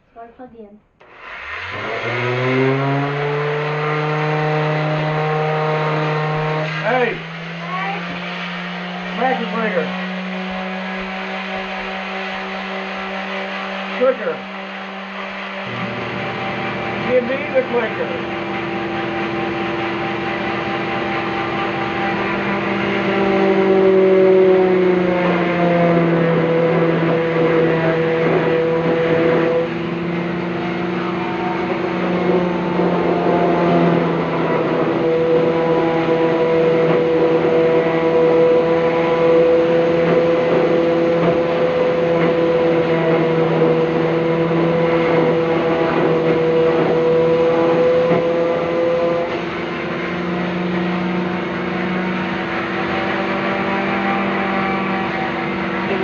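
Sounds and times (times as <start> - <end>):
electric motors humming: 1.0 - 56.0.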